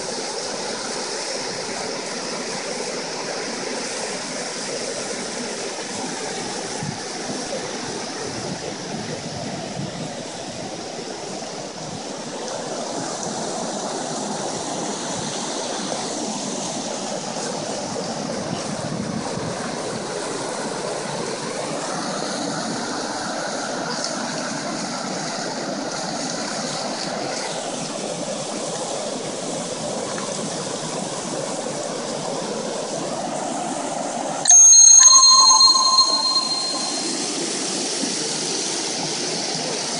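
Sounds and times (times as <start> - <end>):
creek water running over rocks: 0.0 - 33.2.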